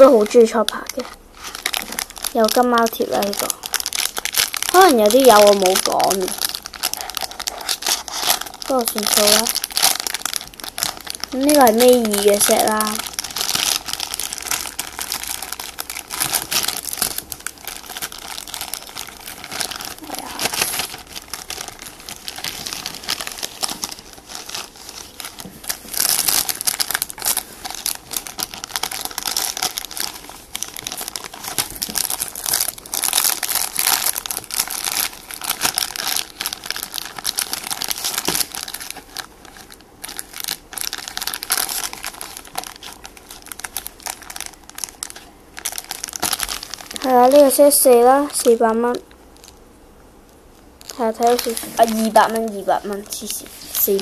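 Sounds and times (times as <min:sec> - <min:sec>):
plastic bags crinkling: 0:00.0 - 0:49.6, 0:50.5 - 0:54.0.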